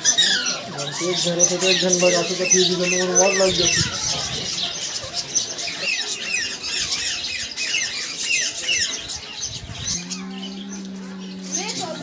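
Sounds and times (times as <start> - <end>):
parrots chirping: 0.0 - 12.0.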